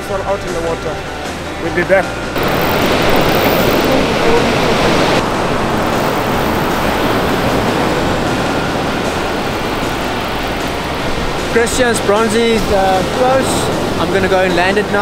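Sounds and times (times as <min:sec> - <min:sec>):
surf breaking on beach: 0:02.4 - 0:15.0.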